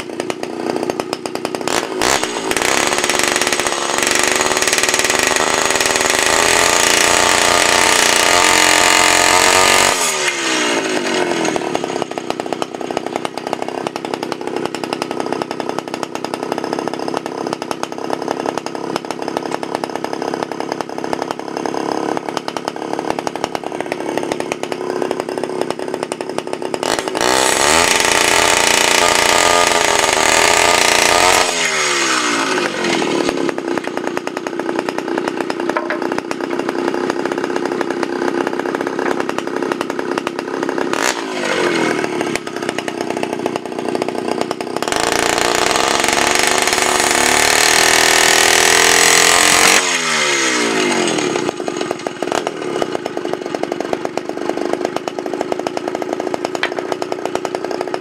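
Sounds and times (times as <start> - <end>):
circular saw engine idling and revving: 0.0 - 58.0
saw cutting through wood: 0.0 - 58.0.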